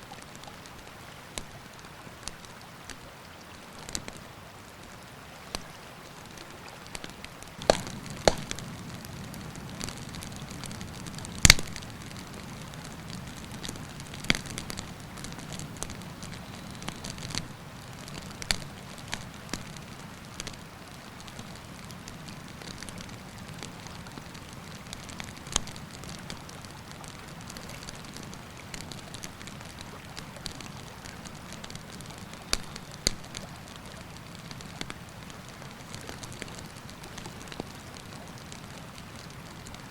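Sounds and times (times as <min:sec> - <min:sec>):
campfire crackling and popping: 0:02.2 - 0:04.2, 0:05.4 - 0:05.8, 0:06.4 - 0:39.9
steady low rush of fire: 0:07.5 - 0:39.8.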